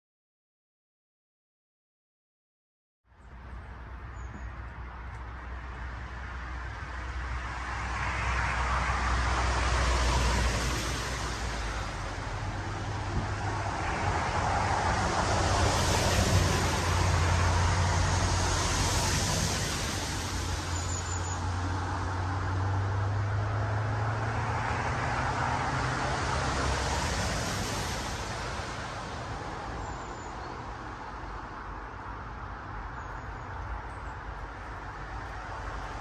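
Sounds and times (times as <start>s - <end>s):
vehicles passing: 3.1s - 36.0s.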